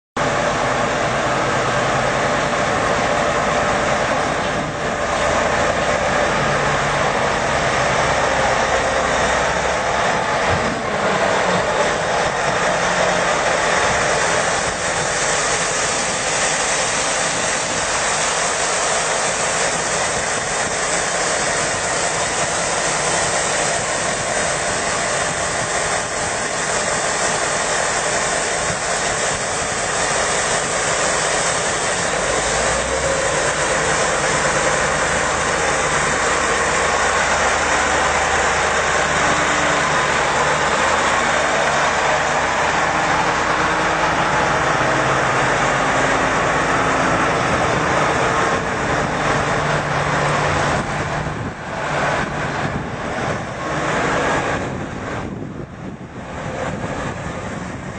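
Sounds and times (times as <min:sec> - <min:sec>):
low engine hum: 0:00.2 - 0:57.9
water spraying hiss: 0:05.0 - 0:52.2.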